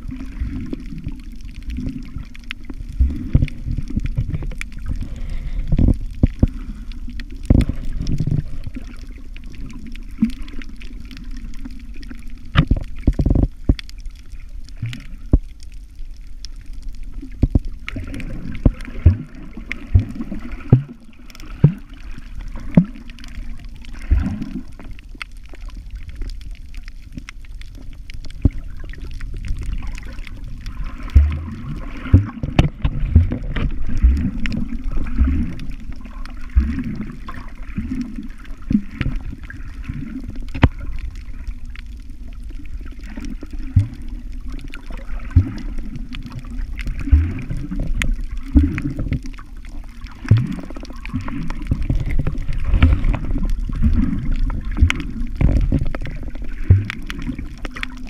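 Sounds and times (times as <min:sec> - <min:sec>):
underwater rumble of moving water: 0:00.0 - 0:58.0.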